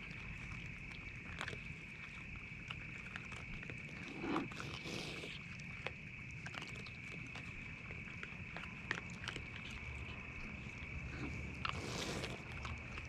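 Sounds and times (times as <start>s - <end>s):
animals chewing pumpkin: 0.0s - 13.0s.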